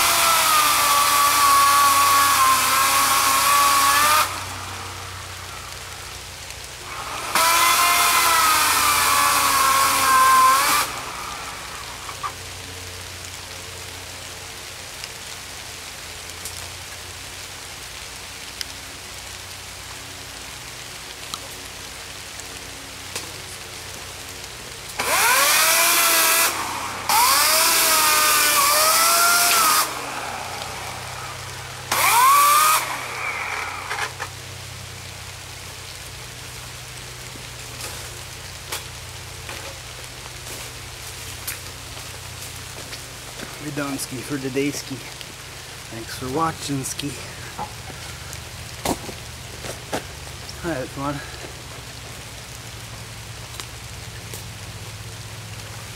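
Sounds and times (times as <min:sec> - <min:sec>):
electric chainsaw cutting wood: 0:00.0 - 0:17.5, 0:21.0 - 0:55.9.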